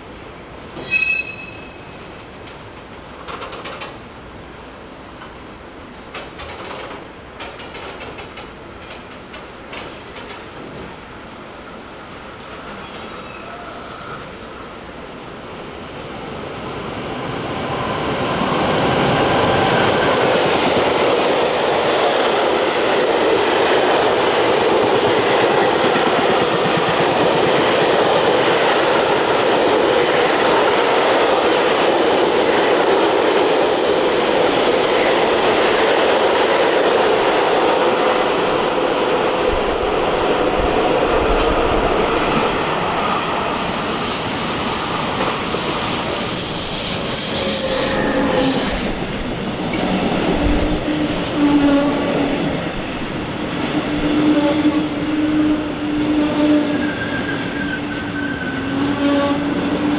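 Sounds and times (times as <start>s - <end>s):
freight train rolling through: 0.0s - 59.9s.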